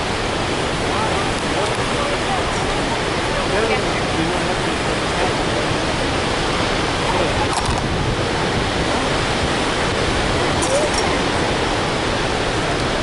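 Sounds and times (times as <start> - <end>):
floodwater rushing through dam: 0.0 - 13.0.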